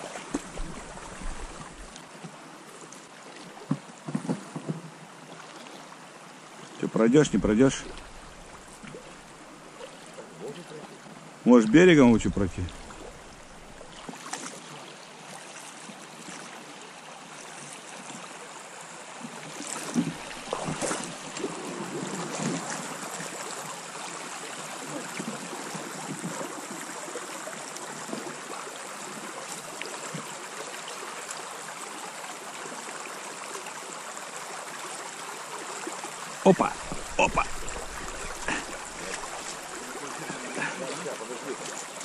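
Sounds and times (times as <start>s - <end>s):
river water rushing over shallows: 0.0s - 42.0s.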